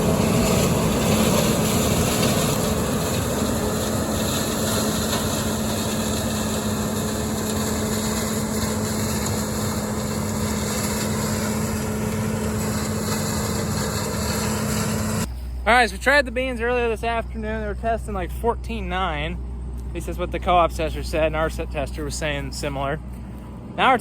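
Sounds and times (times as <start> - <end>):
combine harvester droning: 0.0 - 24.0.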